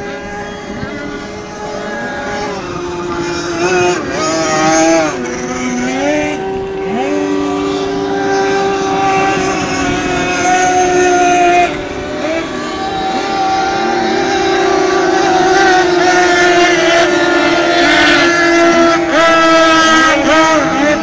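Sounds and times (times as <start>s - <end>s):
powerboat engines at high revs: 0.0s - 21.0s.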